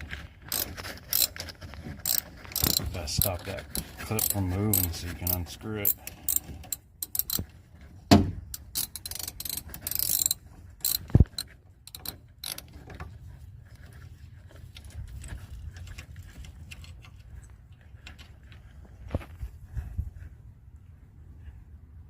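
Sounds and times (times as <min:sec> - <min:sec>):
hand tools clicking and scraping on metal: 0:00.0 - 0:19.2.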